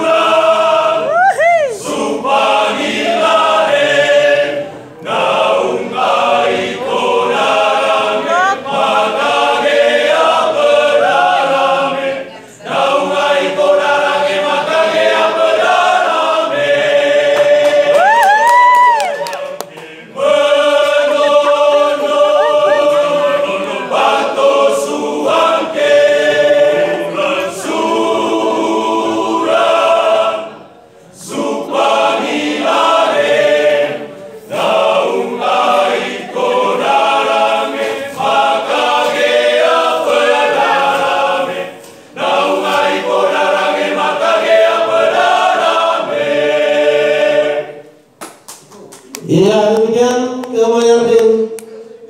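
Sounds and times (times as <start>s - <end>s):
male choir singing a cappella: 0.0s - 1.2s, 1.8s - 18.1s, 19.3s - 48.0s.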